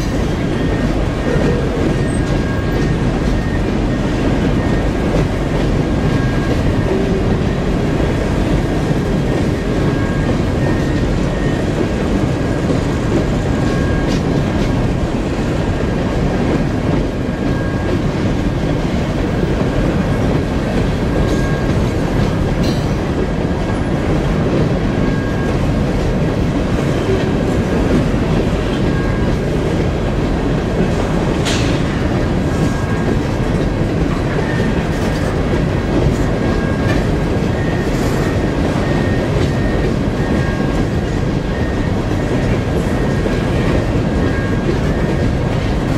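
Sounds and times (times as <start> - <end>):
clickety-clack over rail joints: 0.0 - 45.9
train cars rumbling on rails: 0.0 - 45.9.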